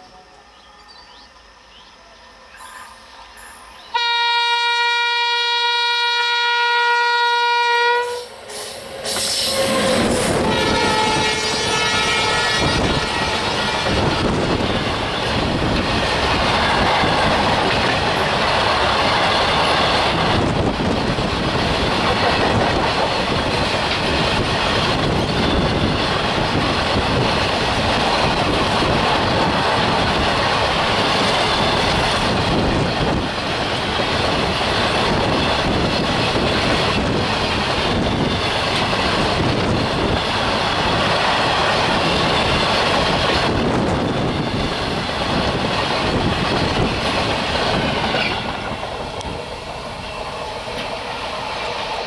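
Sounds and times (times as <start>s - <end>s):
freight train rumbling past: 0.0s - 52.0s.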